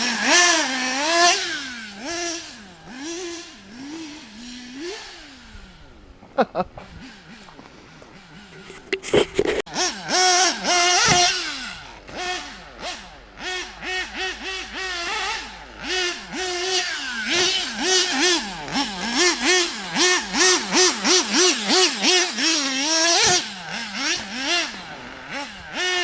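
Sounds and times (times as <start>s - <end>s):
model car engine revving: 0.0s - 6.1s, 6.8s - 26.0s.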